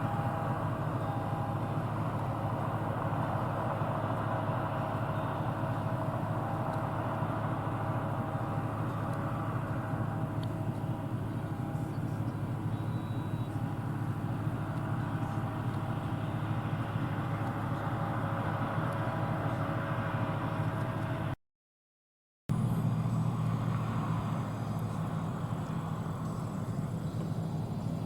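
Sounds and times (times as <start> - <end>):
machinery whine: 0.0 - 21.0, 22.5 - 28.0
combine engine drone: 0.0 - 21.4, 22.5 - 28.0.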